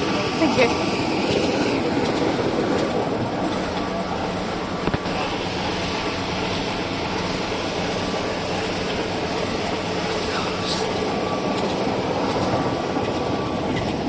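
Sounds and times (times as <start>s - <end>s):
diesel locomotive idling: 0.0s - 14.0s.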